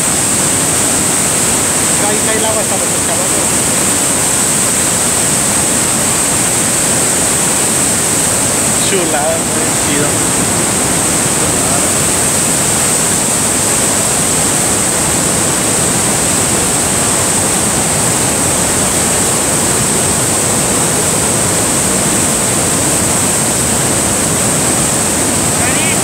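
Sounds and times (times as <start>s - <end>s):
waterfall roaring onto rocks: 0.0s - 26.0s.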